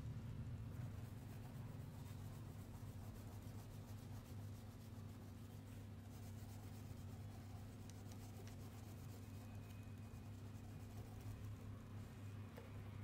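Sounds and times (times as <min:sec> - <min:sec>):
steady low hum: 0:00.0 - 0:13.0
wax crayon scratching on paper: 0:00.7 - 0:11.6.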